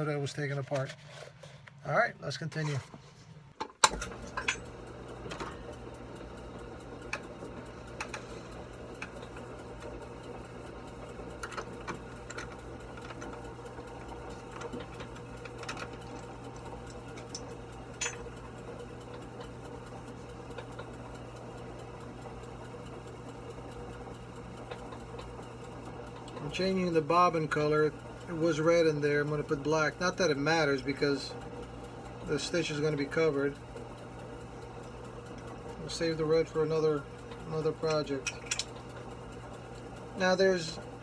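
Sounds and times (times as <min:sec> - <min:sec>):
sewing machine motor humming: 0:03.8 - 0:41.0.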